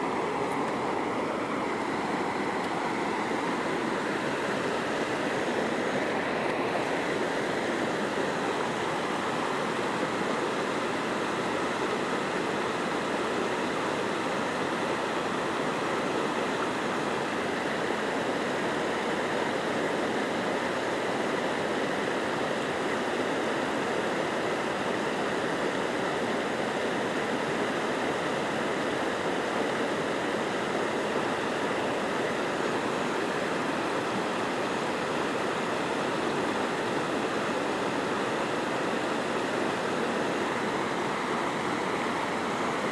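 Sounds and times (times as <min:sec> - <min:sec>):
river rushing over stones: 0:00.0 - 0:42.9.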